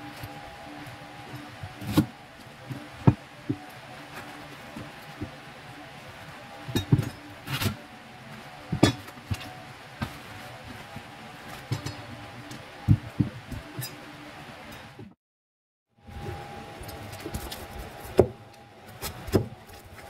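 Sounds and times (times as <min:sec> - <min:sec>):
faint hum: 0:00.0 - 0:15.1, 0:16.0 - 0:20.0.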